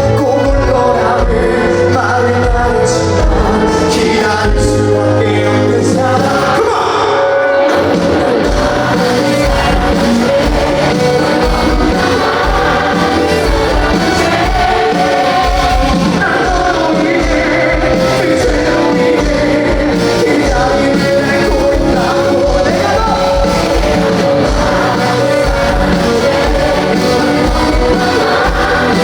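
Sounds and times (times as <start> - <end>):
live rock band playing: 0.0 - 29.0
person singing: 0.0 - 29.0.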